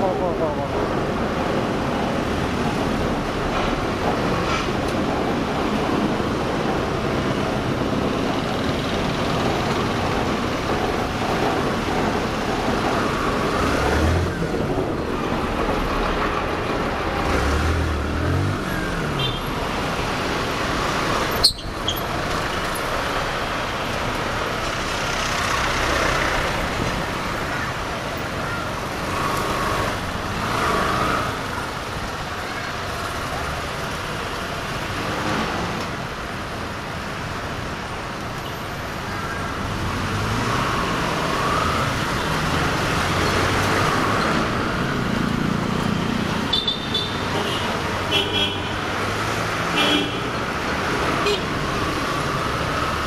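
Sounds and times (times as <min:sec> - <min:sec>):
dense street traffic: 0:00.0 - 0:53.0.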